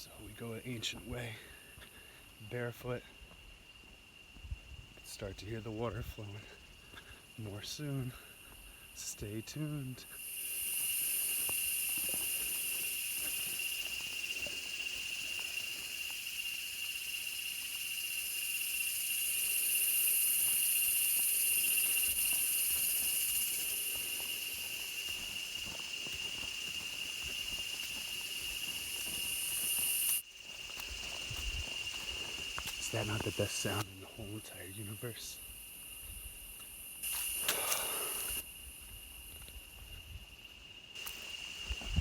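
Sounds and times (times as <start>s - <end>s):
insect buzzing chorus: 0.0s - 42.0s
insects droning: 0.0s - 42.0s.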